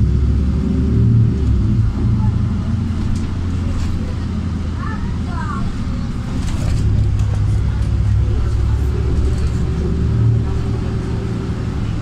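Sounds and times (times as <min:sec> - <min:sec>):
bus engine drone: 0:00.0 - 0:12.0
road rumble: 0:00.0 - 0:12.0.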